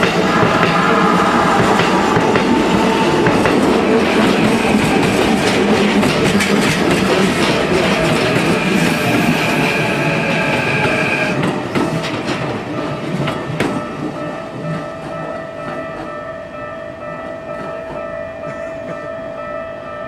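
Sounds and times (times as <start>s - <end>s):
train wheels clacking over rail joints: 0.0s - 16.1s.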